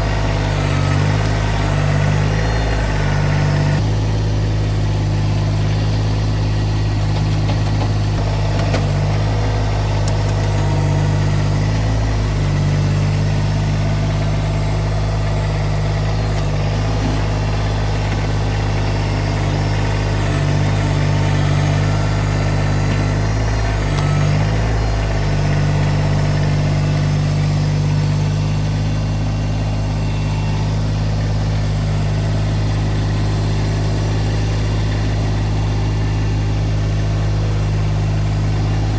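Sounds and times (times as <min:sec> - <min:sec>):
loader engine running: 0:00.0 - 0:38.9
loader scraping the ground: 0:00.0 - 0:38.9.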